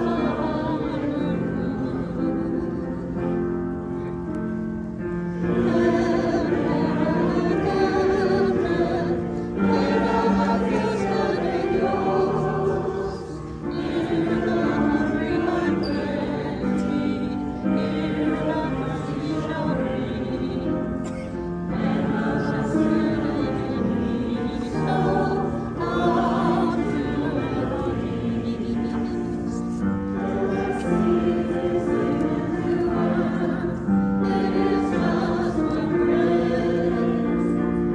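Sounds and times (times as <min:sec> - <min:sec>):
choir singing a hymn: 0:00.0 - 0:37.9.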